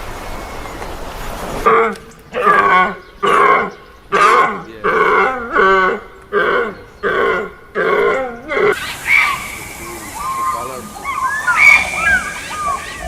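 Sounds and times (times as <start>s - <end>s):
animal calling: 1.6s - 13.0s.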